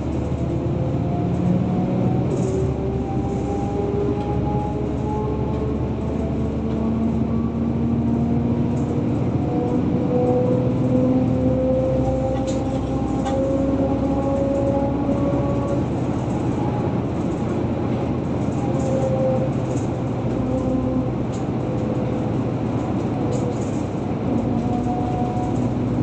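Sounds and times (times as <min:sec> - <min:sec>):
car engine whine: 0:00.0 - 0:26.0
tyre and road noise: 0:00.0 - 0:26.0.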